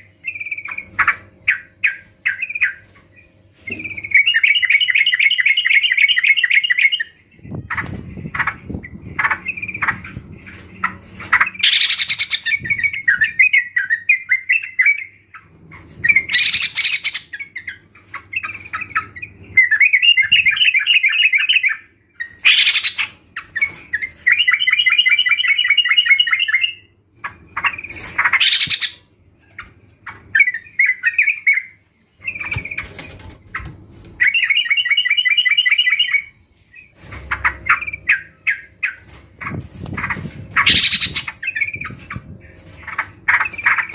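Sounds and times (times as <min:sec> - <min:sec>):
group of birds chattering: 0:00.0 - 0:36.1, 0:36.9 - 0:43.9.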